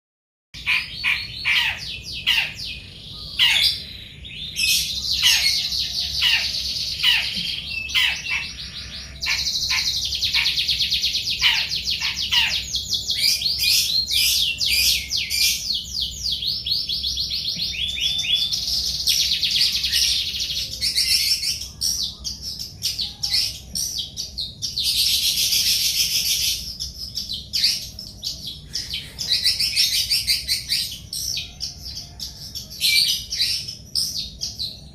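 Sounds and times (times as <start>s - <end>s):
small birds chirping: 0.6s - 34.9s.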